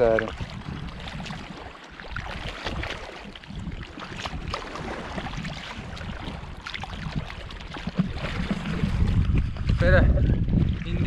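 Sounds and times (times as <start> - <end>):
footsteps splashing in shallow water: 0.0 - 11.0
wind buffeting microphone: 0.0 - 11.0.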